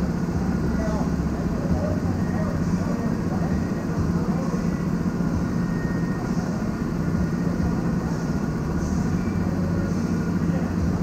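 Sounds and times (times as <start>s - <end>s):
go-kart engines idling: 0.0s - 11.0s.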